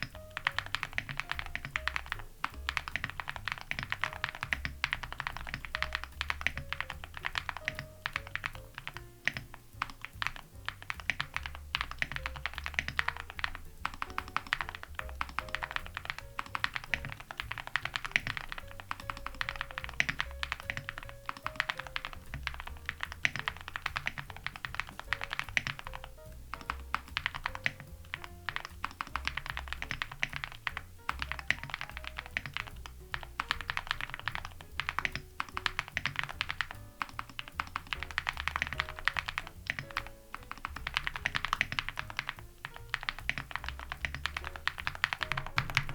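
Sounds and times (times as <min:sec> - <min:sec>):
jazz music with bass line: 0:00.0 - 0:45.9
mechanical keyboard typing: 0:00.0 - 0:45.9.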